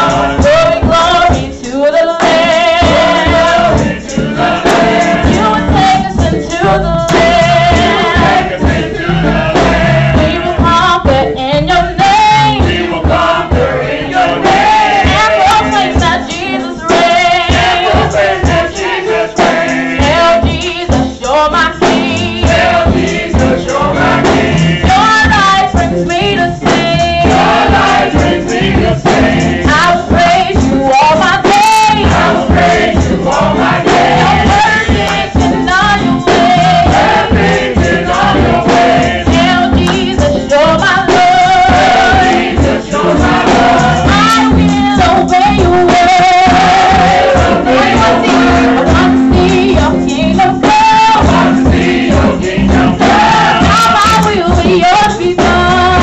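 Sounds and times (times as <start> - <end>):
woman singing into a microphone: 0.0 - 8.7, 10.1 - 13.6, 15.0 - 18.8, 20.0 - 23.7, 24.8 - 33.5, 34.2 - 56.0
children's choir singing: 0.0 - 56.0.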